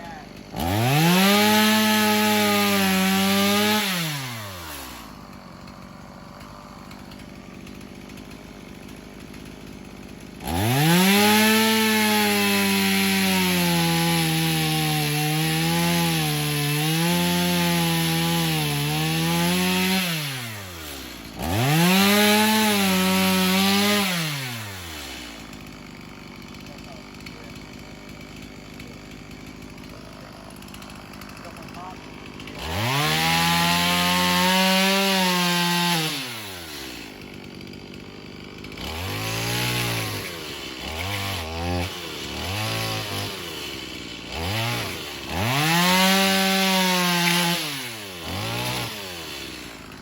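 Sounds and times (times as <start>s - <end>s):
chainsaw cutting wood: 0.0s - 50.0s
chainsaw idling: 0.0s - 50.0s.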